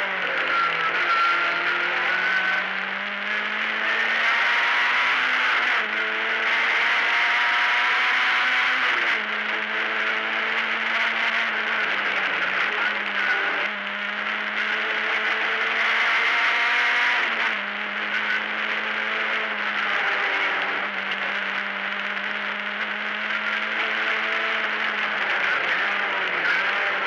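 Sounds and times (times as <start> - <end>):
rally car engine under load: 0.0 - 27.0.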